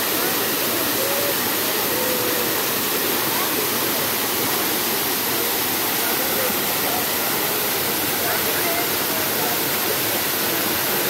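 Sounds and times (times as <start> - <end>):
waterfall pouring onto rocks: 0.0 - 11.0.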